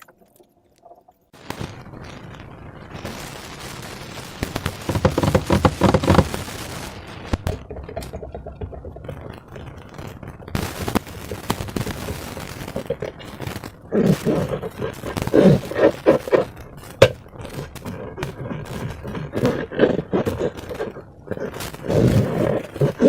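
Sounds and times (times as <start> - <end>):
slime squishing and crackling: 4.5 - 23.0.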